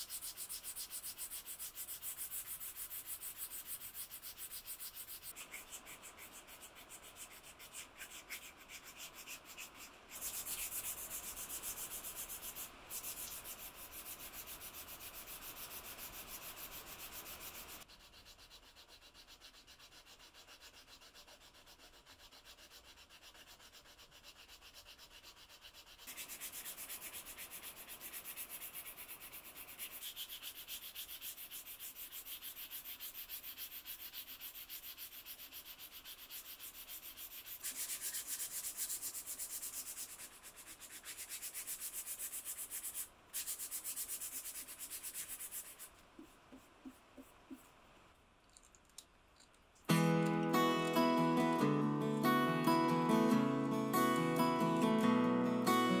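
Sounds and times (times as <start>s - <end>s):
hand sanding wood: 0.0s - 47.7s.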